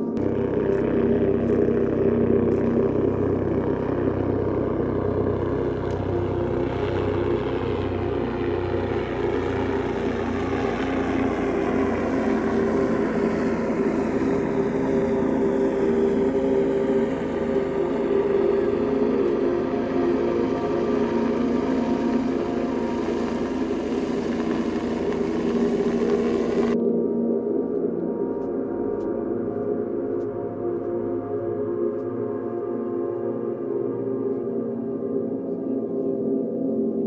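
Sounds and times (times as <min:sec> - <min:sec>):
held humming tones: 0:00.0 - 0:37.0
steady engine drone: 0:00.0 - 0:37.0.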